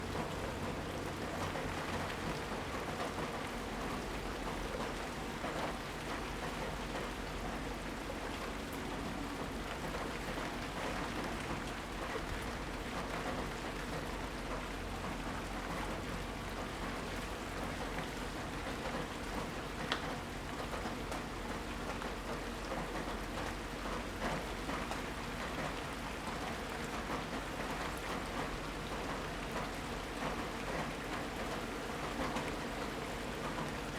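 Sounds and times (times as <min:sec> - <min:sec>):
heavy rain pattering: 0:00.0 - 0:33.9.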